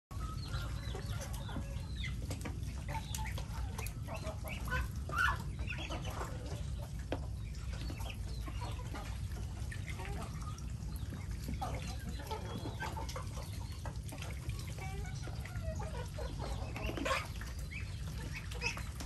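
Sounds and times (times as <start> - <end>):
chickens clucking: 0.1 - 19.0.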